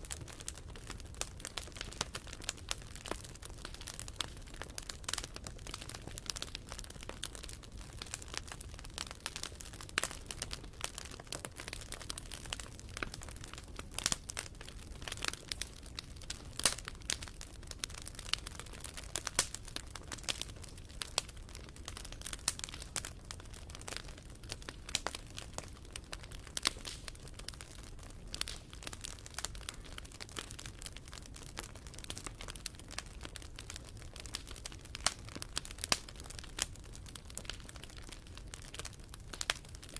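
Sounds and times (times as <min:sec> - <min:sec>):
fire pops and snaps: 0:00.0 - 0:39.9
wood fire crackling: 0:00.0 - 0:39.9.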